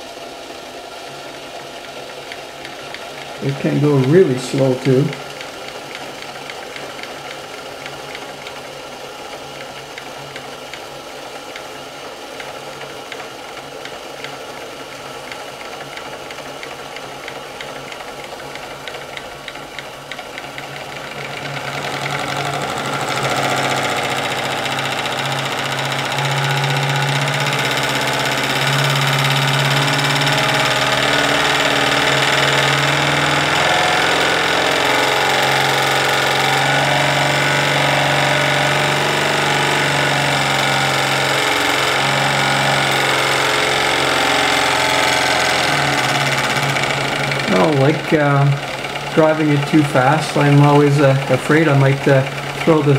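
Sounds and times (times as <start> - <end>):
steam engine ticking: 0.0 - 8.7, 12.4 - 52.9.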